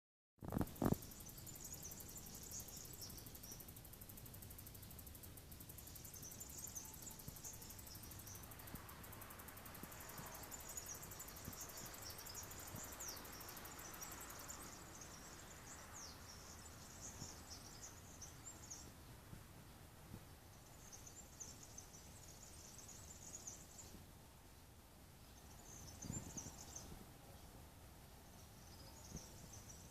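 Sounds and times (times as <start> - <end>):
field insects chirring: 0.4 - 29.9.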